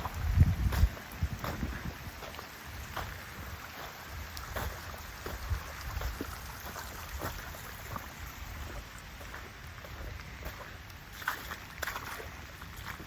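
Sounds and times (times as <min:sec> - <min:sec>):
rain falling: 0:00.0 - 0:13.0
wind rumble on microphone: 0:00.0 - 0:13.0.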